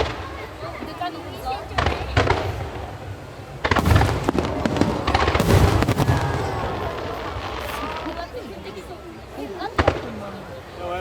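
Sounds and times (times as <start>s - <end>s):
fireworks booming and crackling: 0.0s - 10.6s.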